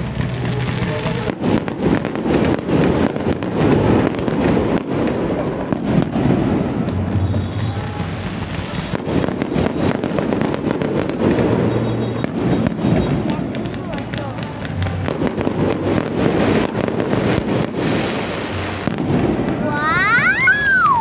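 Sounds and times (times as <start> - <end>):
fireworks popping and crackling: 0.0 - 21.0.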